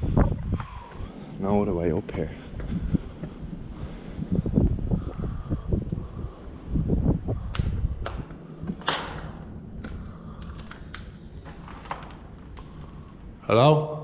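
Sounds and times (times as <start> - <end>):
wind buffeting microphone: 0.0 - 13.4.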